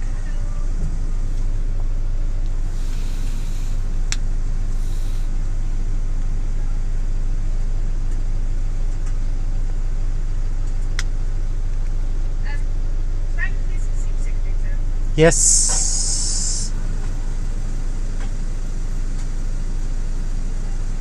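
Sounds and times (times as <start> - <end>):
engine idling low drone: 0.0 - 21.0.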